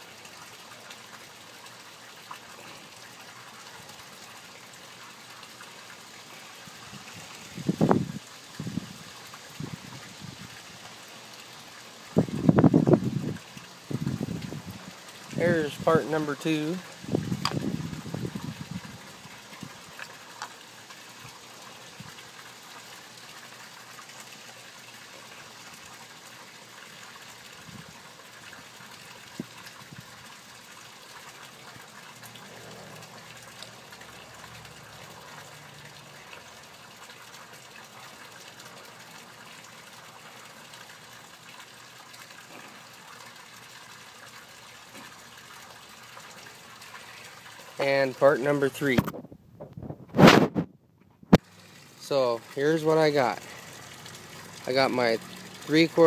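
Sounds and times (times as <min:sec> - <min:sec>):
running water rushing: 0:00.0 - 0:49.2, 0:49.8 - 0:50.7, 0:51.3 - 0:56.0.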